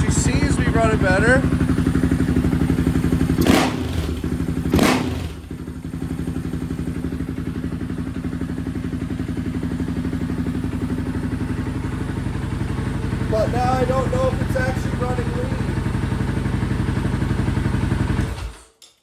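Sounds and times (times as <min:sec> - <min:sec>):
atv engine idling: 0:00.0 - 0:18.6.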